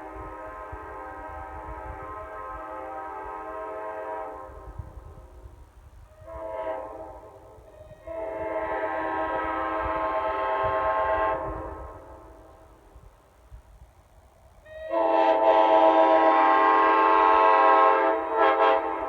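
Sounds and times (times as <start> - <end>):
locomotive air horn blasts: 0.0 - 5.4, 6.1 - 12.8, 14.6 - 19.0.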